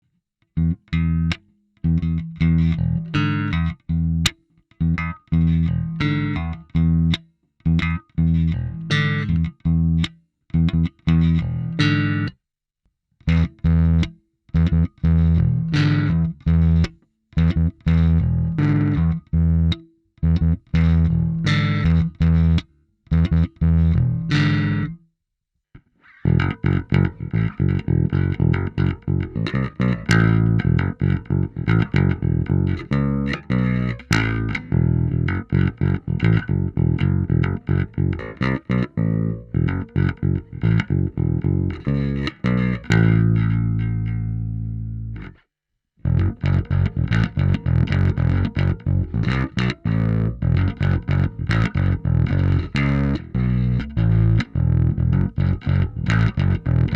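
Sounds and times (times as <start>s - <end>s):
overdriven electric bass notes: 0.6s - 12.3s, 13.3s - 25.0s, 26.0s - 45.4s, 46.0s - 56.9s.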